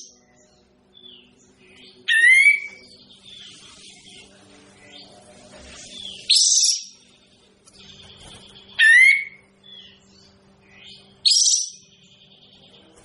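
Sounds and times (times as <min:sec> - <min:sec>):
songbird calling: 0:00.0 - 0:05.2, 0:05.8 - 0:12.9
faint steady hum: 0:00.0 - 0:13.0.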